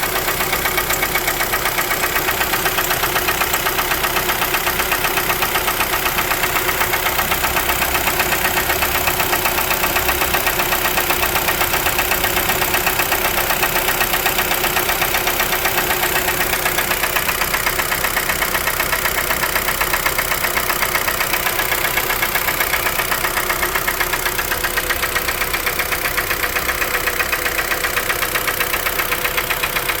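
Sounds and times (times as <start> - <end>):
car engine knocking: 0.0 - 30.0.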